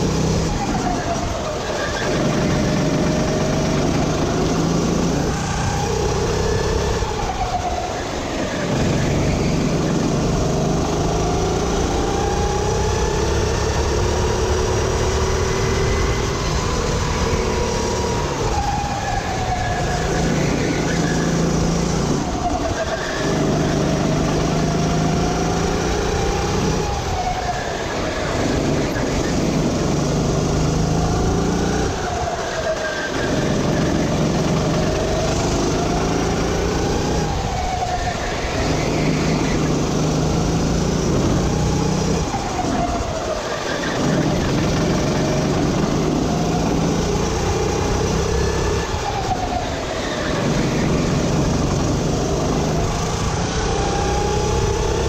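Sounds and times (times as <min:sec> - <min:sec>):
kart engine rising and falling: 0:00.0 - 0:55.0.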